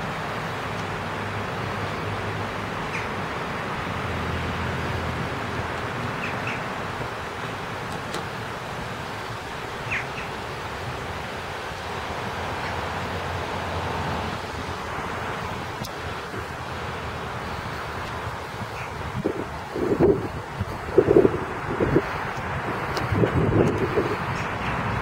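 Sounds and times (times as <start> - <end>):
rushing outdoor background noise: 0.0 - 25.0.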